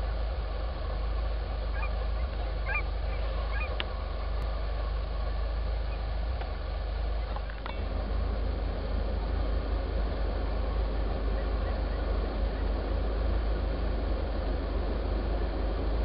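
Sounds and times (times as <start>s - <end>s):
distant geese honking: 0.0s - 16.0s
low rumble: 0.0s - 16.0s.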